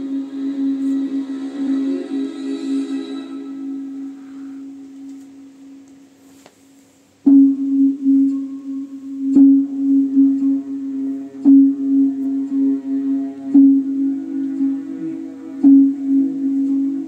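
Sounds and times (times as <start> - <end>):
low ringing tone: 0.0 - 6.2, 7.3 - 17.0.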